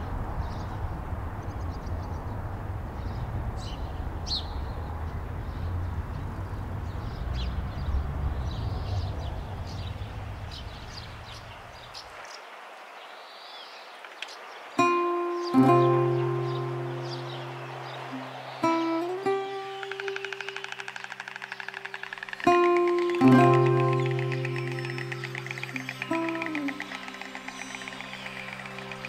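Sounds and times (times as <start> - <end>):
small birds chirping: 0.4 - 29.0.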